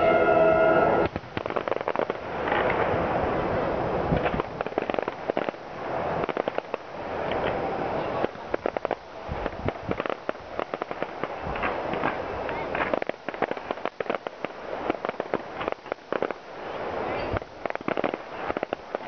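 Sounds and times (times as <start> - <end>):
fireworks crackling and banging: 0.0 - 19.0
noisy rushing background: 0.0 - 19.0.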